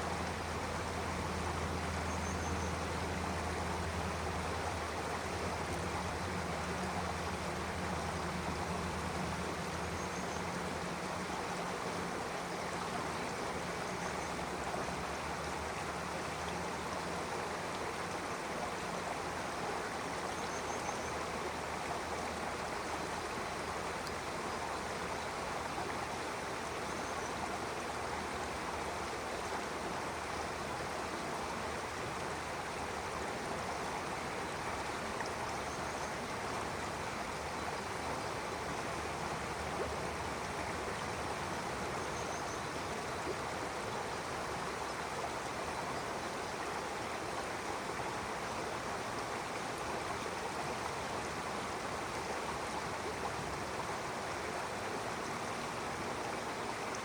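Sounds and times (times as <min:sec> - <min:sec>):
stream of running water: 0:00.0 - 0:57.0.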